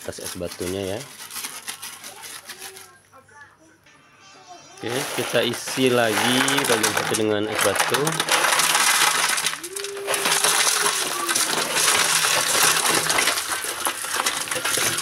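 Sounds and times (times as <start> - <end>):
ice cubes clattering into metal tub: 0.0 - 2.8, 4.8 - 15.0.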